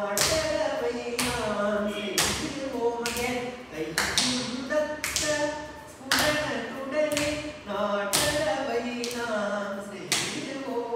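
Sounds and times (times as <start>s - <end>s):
person chanting rhythm syllables: 0.0s - 10.9s
sharp rhythmic beat: 0.0s - 10.9s.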